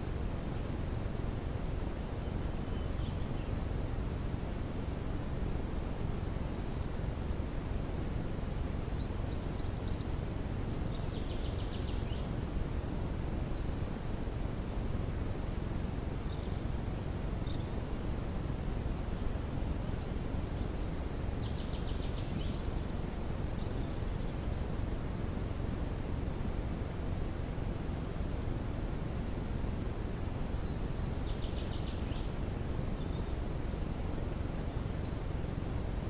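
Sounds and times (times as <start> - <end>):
low hiss and rumble: 0.0 - 36.0.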